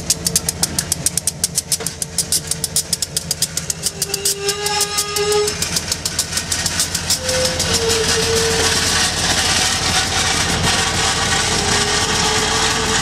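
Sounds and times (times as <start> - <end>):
diesel locomotives rumbling past: 0.0 - 13.0
train wheels clicking on rails: 0.0 - 13.0
wheel squeal: 1.6 - 13.0.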